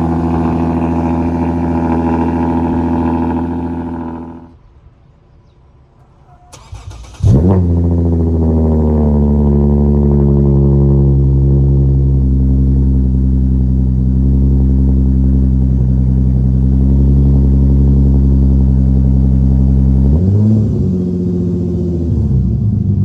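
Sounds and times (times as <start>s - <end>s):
car engine idling and revving: 0.0s - 4.6s, 6.0s - 23.0s.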